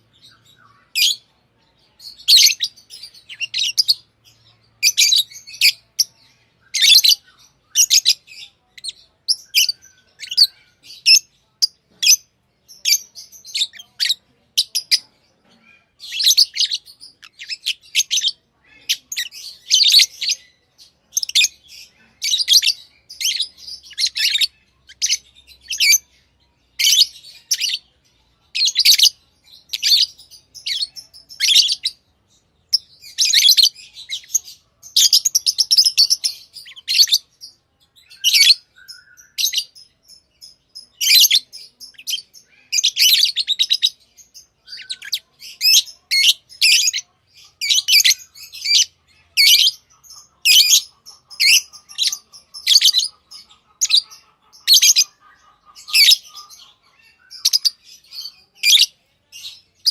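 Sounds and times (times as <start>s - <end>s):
lovebirds chirping and chattering: 0.0s - 59.9s.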